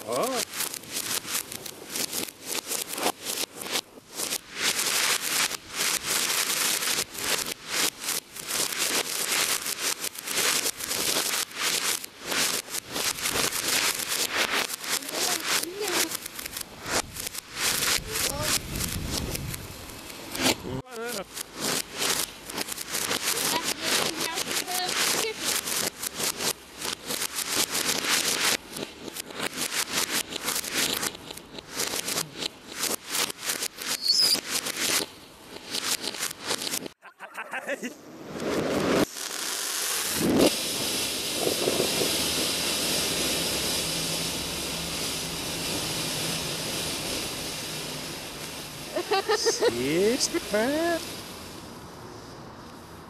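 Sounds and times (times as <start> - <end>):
reversed fireworks fountain crackle: 0.0 - 53.0.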